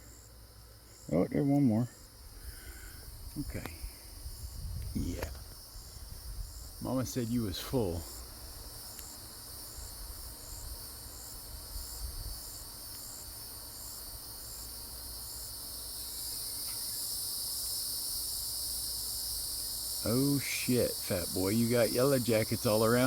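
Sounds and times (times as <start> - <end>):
high-pitched insect drone: 0.0 - 23.0
short insect chirps: 0.0 - 23.0.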